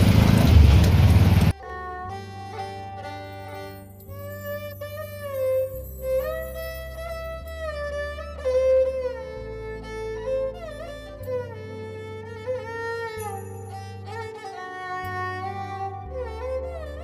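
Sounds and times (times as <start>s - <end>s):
melody with sliding notes: 1.5s - 17.0s.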